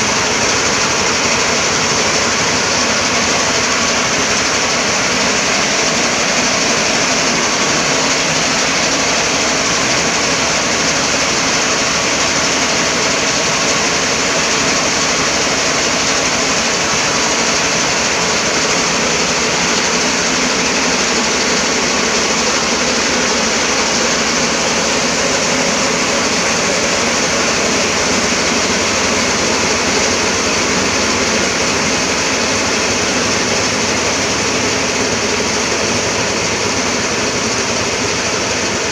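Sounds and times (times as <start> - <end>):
harvesting machine running: 0.0 - 38.9.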